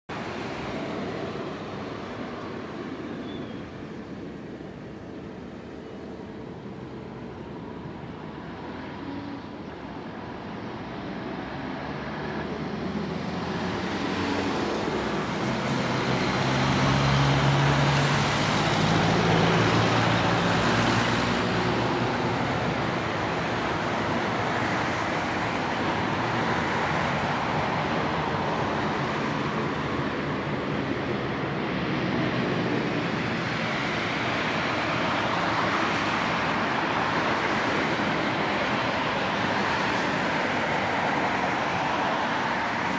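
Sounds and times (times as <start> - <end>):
jet engine rumble: 0.1 - 42.9.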